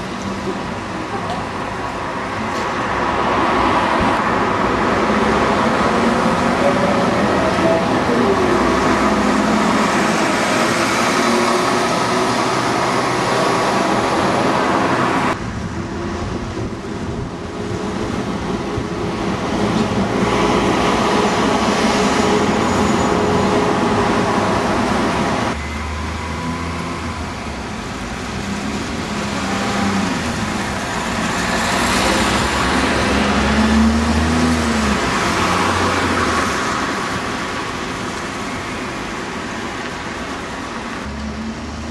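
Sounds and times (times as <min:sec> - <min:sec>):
street traffic passing: 0:00.0 - 0:41.9.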